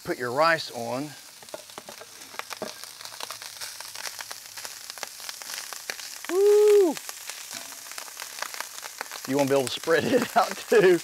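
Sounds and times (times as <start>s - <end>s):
rice sizzling on griddle: 0.0s - 11.0s.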